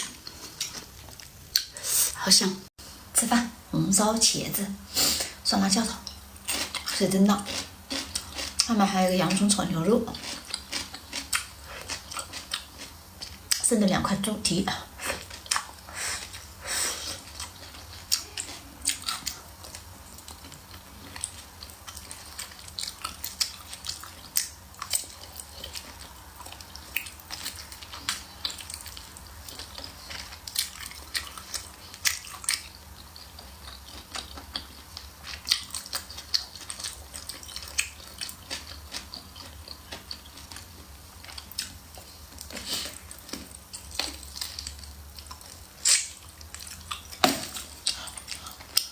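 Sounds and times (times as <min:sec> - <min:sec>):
person chewing with mouth smacks: 0:00.0 - 0:01.8, 0:10.1 - 0:13.6, 0:15.0 - 0:48.9.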